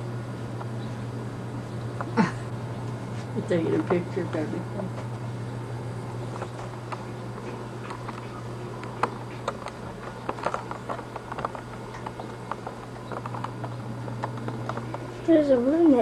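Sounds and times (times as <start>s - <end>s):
camcorder low hum: 0.0s - 16.0s.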